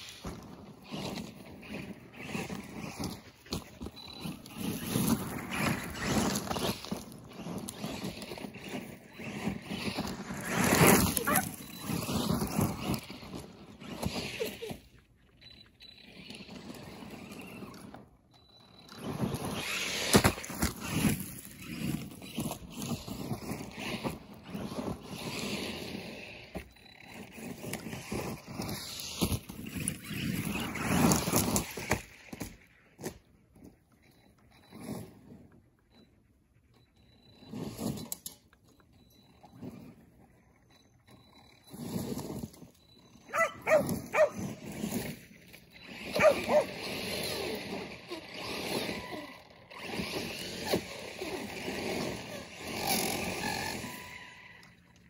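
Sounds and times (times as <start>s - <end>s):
tyres scrabbling on dirt: 0.0s - 15.0s, 16.1s - 35.7s, 39.3s - 54.9s
rc truck motor whining: 0.0s - 55.0s.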